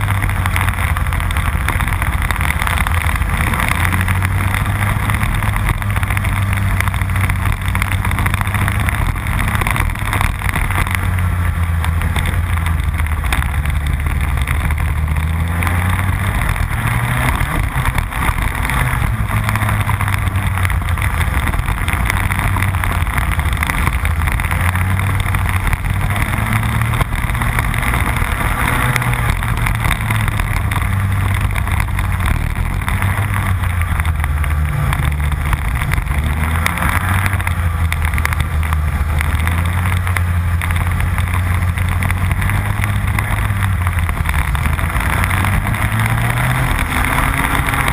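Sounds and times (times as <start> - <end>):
kart engine racing: 0.0 - 47.9.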